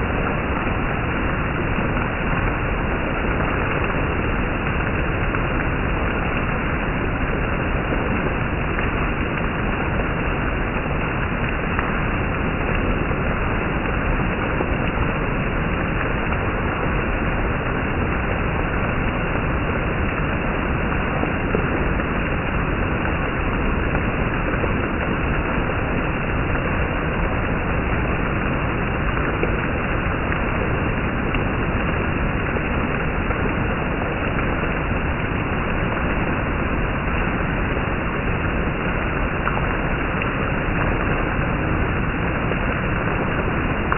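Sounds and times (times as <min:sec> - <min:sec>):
heavy rain downpour: 0:00.0 - 0:43.9.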